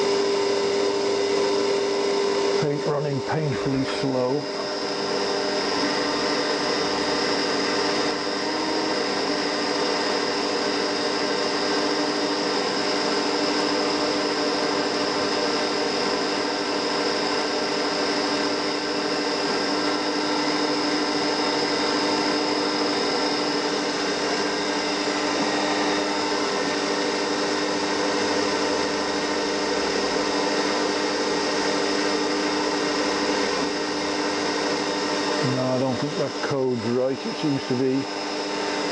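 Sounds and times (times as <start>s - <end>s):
mill spindle hum and whine: 0.0s - 38.9s.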